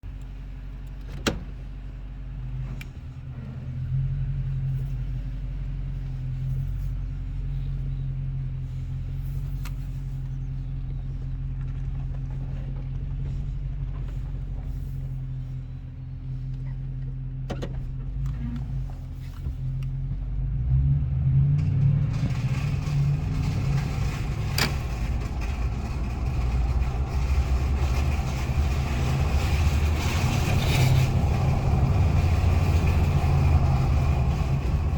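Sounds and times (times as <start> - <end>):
pickup engine running: 0.0 - 34.9.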